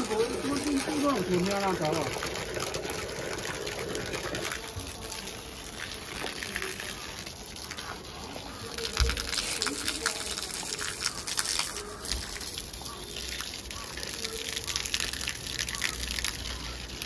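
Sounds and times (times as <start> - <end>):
water gushing from hose: 0.0 - 17.0.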